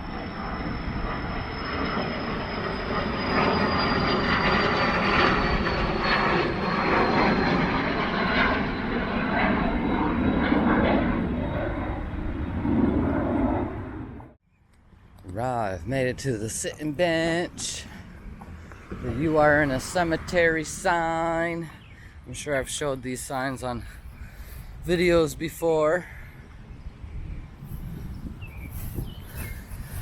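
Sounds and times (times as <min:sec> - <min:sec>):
jet airplane passing: 0:00.0 - 0:30.0.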